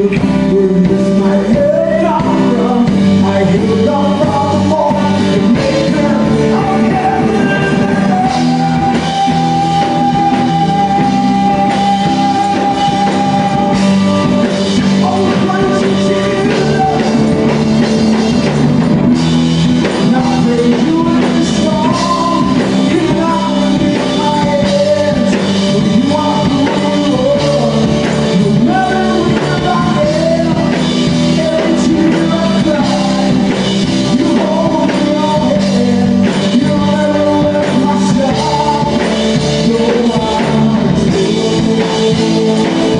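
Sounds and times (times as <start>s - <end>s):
bass: 0.0s - 42.9s
drums: 0.0s - 42.9s
melodic lead line: 0.0s - 42.9s.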